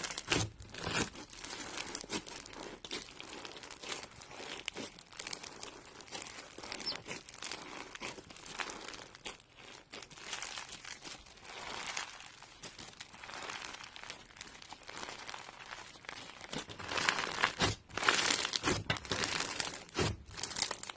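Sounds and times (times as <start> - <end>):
crunchy slime crackling: 0.0 - 20.9.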